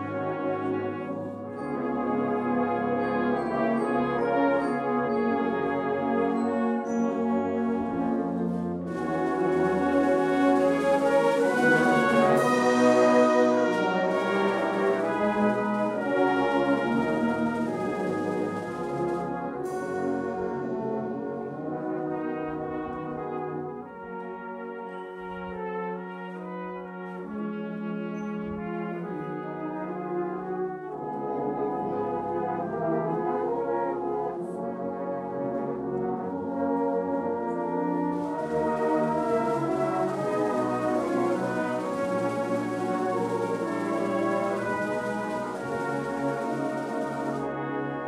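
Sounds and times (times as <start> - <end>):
brass band playing a slow hymn: 0.0 - 48.0.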